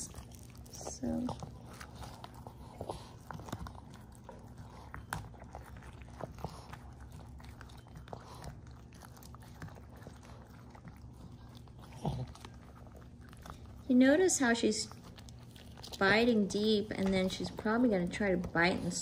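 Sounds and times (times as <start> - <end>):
dog gnawing a chew: 0.0 - 19.0
faint low hum: 0.0 - 19.0.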